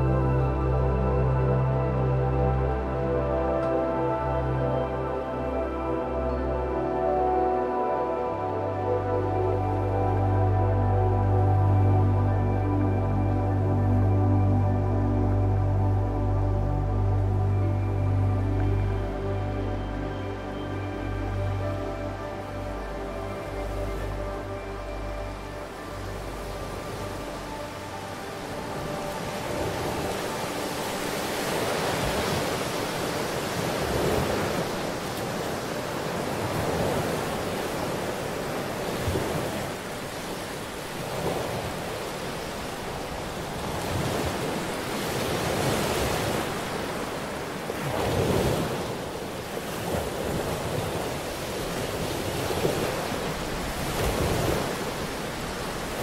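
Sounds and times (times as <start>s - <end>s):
ocean waves washing in: 5.3s - 56.0s.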